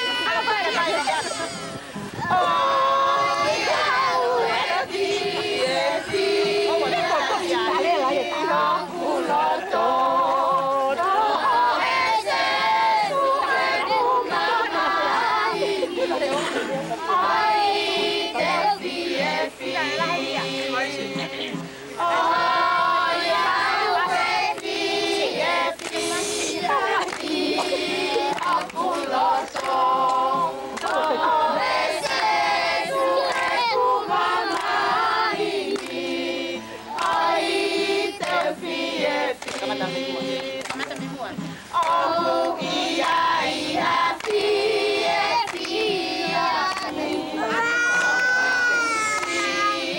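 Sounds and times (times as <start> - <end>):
group singing in unison: 0.0 - 49.9.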